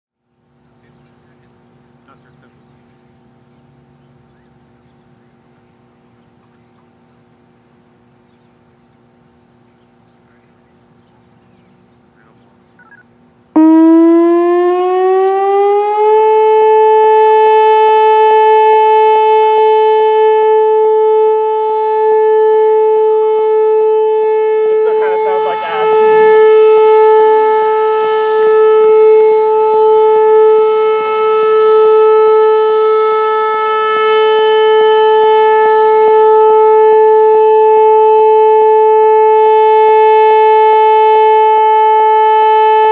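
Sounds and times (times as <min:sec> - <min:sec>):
outdoor warning siren: 0:00.2 - 0:42.9.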